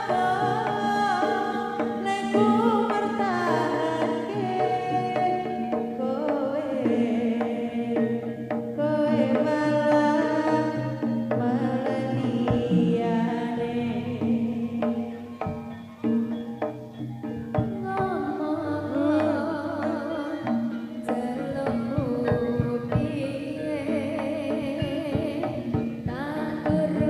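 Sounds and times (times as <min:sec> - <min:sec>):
wavering melody over drums: 0:00.0 - 0:27.0.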